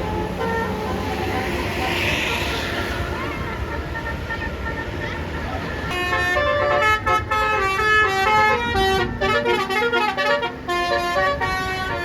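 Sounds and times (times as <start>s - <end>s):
bus horn playing fast melody: 0.0s - 1.6s, 3.4s - 12.0s.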